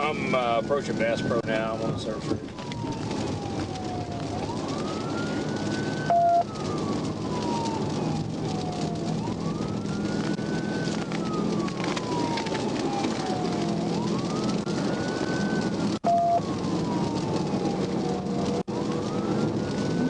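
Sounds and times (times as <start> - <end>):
car engine and road noise: 0.0 - 20.0
police siren wailing: 0.0 - 20.0.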